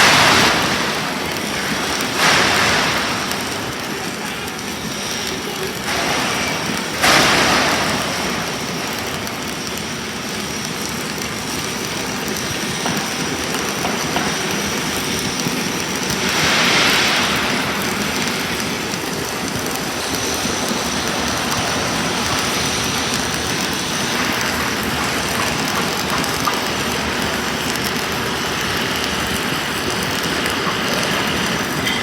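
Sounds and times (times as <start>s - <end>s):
welding arc crackling: 0.0s - 32.0s.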